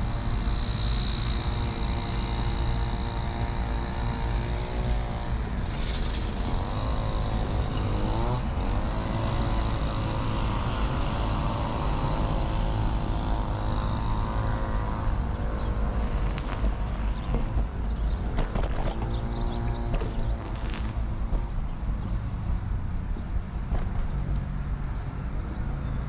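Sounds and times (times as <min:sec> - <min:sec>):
road rumble: 0:00.0 - 0:26.0
vehicle engine close by: 0:00.0 - 0:26.0.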